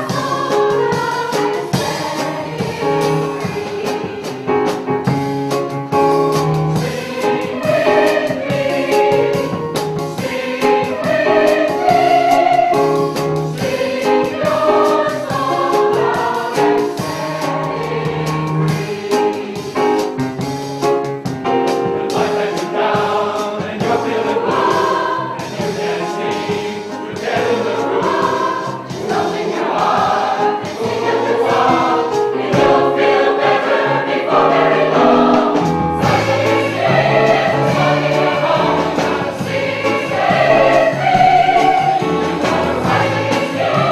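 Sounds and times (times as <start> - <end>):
choir singing: 0.0 - 4.8, 6.0 - 20.1, 22.0 - 43.9.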